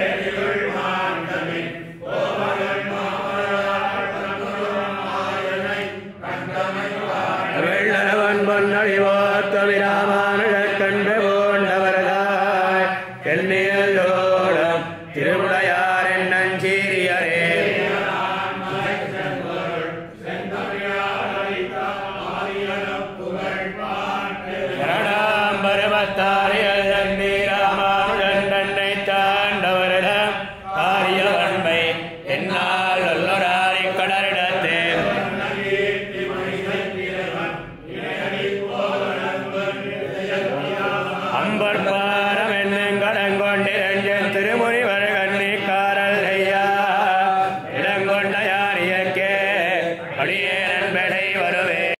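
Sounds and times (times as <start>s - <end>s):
person chanting verses: 0.0s - 51.9s.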